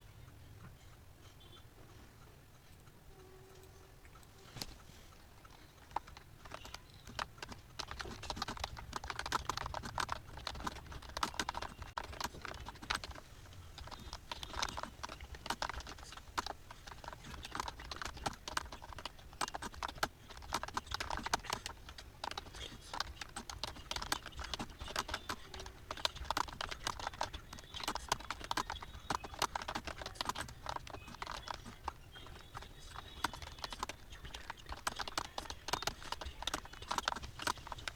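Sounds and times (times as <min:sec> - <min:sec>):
fast keyboard typing: 0:05.4 - 0:37.9.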